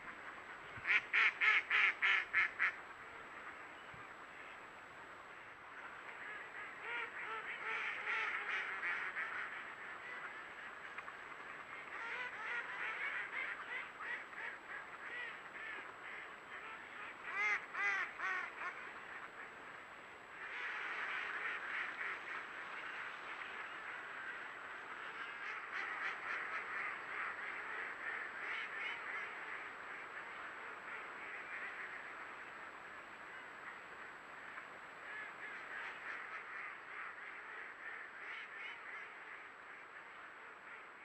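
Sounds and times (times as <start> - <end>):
flock of ducks quacking: 0.0 - 4.6, 5.3 - 41.0.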